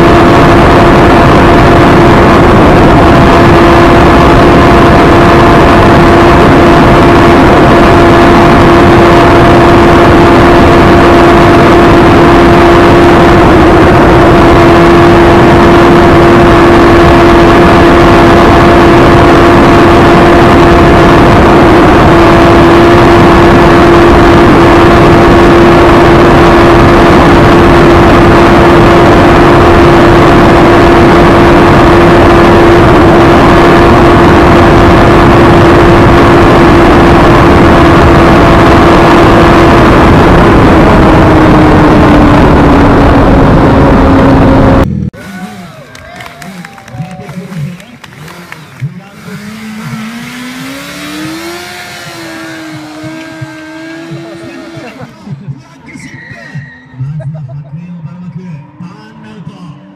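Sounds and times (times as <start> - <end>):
motorcycle engine high revs: 0.0 - 55.5.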